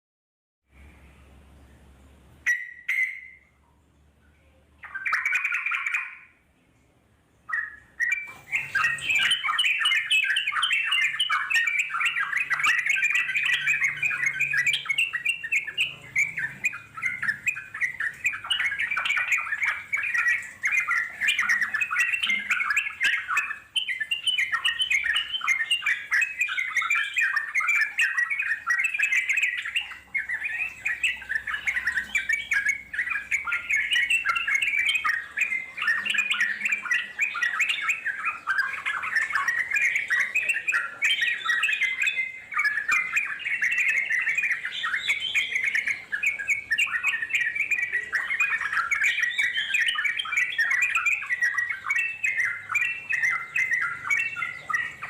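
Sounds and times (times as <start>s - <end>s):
bird rapid chattering song: 2.3s - 3.5s, 4.8s - 6.4s, 7.4s - 55.0s.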